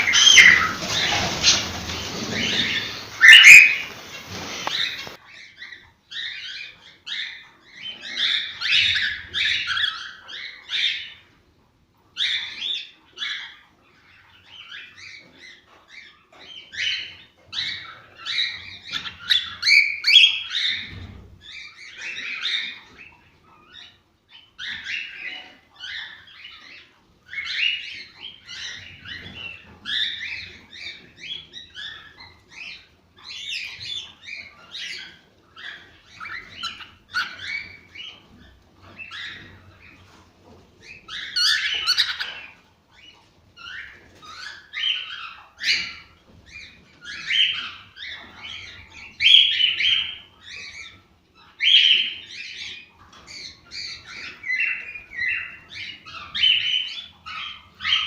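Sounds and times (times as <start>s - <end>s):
cockatiels chattering: 0.0s - 11.2s, 21.9s - 40.1s, 40.8s - 58.0s.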